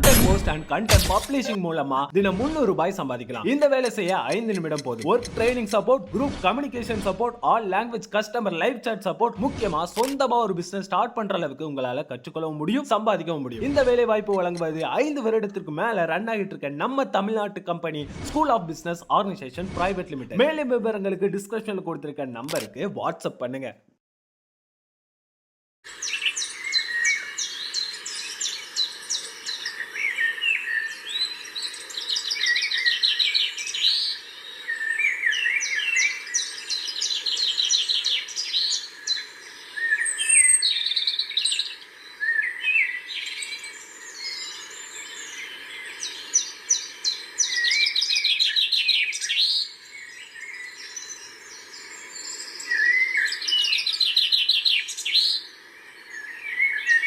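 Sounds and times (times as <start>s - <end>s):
songbirds singing and chirping: 0.0s - 9.2s, 9.8s - 17.4s, 25.9s - 57.0s.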